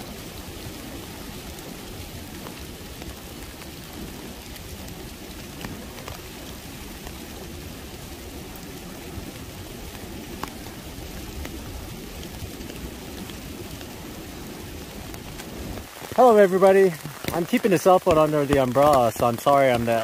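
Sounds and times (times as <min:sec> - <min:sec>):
raindrops ticking nearby: 0:00.0 - 0:20.0
steady rain hiss: 0:00.0 - 0:20.0.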